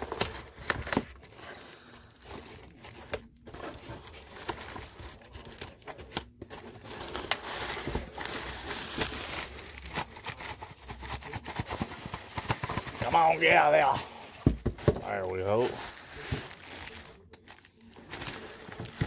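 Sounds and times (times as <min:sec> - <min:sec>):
packaging rustling and crinkling: 0:00.0 - 0:19.0.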